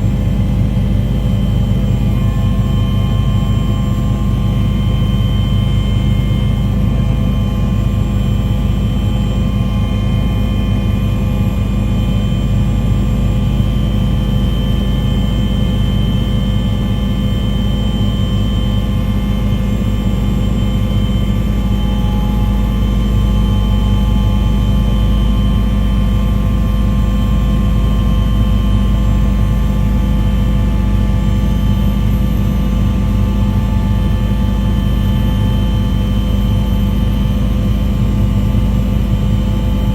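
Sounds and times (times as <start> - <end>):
engine drone with whine: 0.0 - 39.9.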